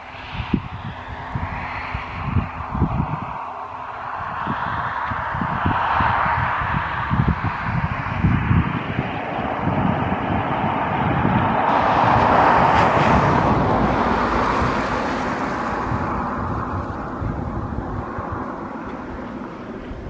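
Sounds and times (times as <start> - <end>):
car passing by: 0.0 - 20.0.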